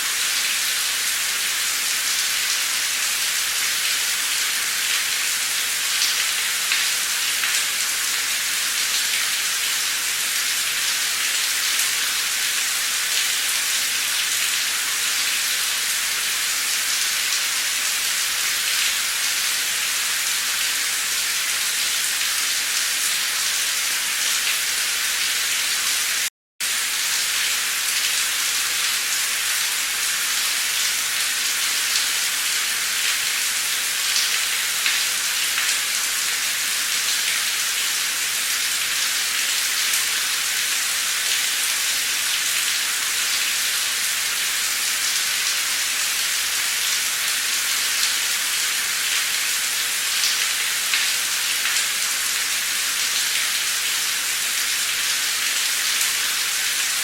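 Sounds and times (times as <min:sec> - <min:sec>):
heavy pouring rain: 0:00.0 - 0:57.0.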